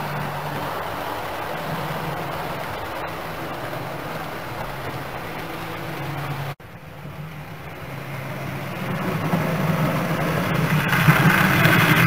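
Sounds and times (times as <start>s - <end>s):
model train motor humming: 0.0s - 12.0s
train wheels rumbling on rails: 0.0s - 12.0s.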